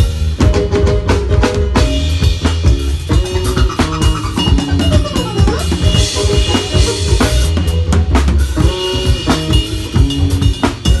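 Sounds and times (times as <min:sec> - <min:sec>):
sustained low bass notes: 0:00.0 - 0:11.0.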